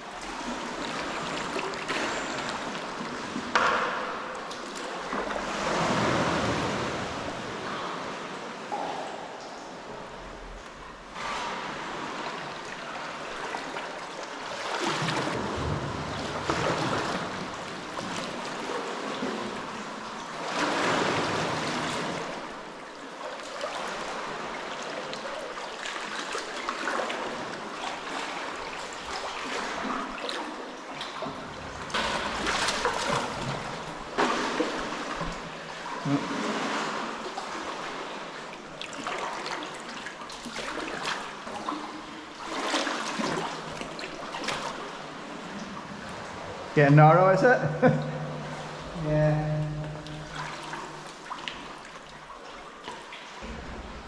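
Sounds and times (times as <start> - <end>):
sea water splashing: 0.0 - 54.0.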